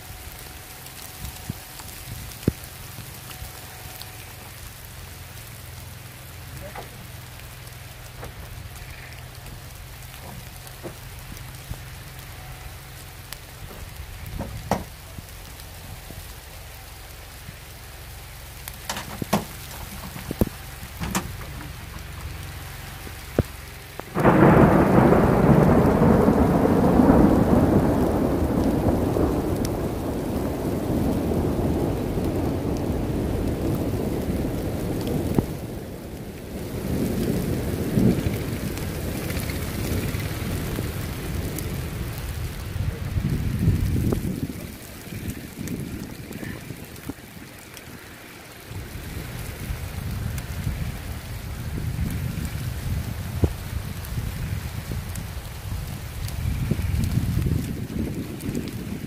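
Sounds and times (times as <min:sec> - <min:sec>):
steady rain with sleet: 0:00.0 - 0:59.0
thunderclap rumbling: 0:06.6 - 0:17.2, 0:18.7 - 0:59.0.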